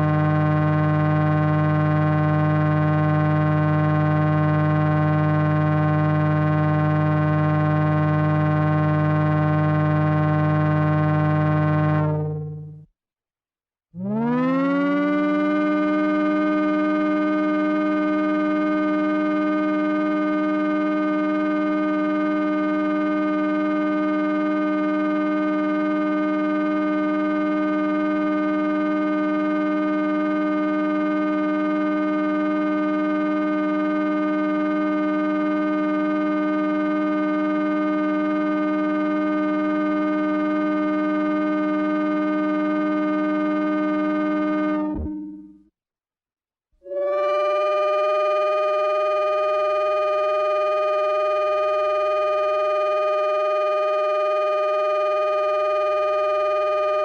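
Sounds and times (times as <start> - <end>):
synthesized electronic drone: 0.0 - 12.9, 14.0 - 45.7, 46.8 - 57.0.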